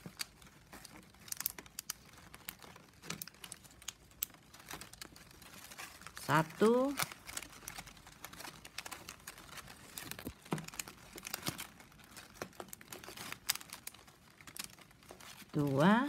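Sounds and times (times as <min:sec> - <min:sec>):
plastic strips crinkling and scraping: 0:00.0 - 0:16.0.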